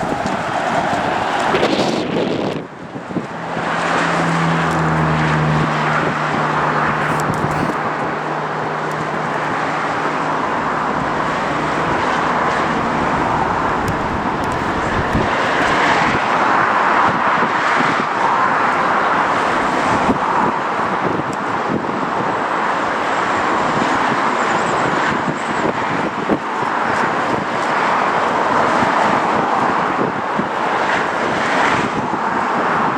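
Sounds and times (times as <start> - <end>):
jet airliner engines passing: 0.0 - 32.9.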